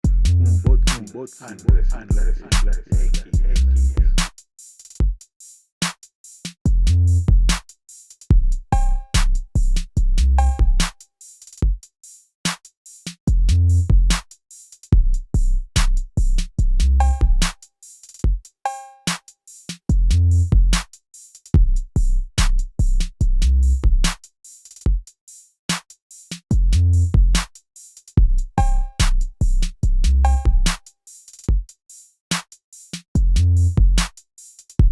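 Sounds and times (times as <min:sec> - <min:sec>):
drum machine beat: 0:00.0 - 0:34.9.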